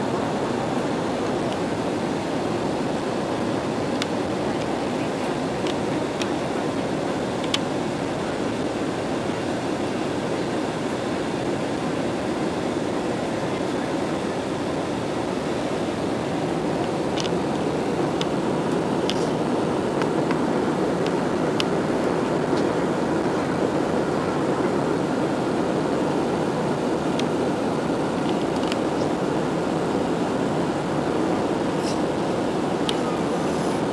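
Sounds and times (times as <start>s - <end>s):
jet airliner engine rush: 0.0s - 33.9s.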